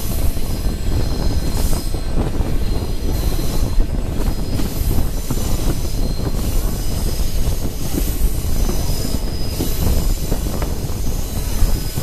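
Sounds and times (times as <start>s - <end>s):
train cars rumbling on rails: 0.0s - 12.0s.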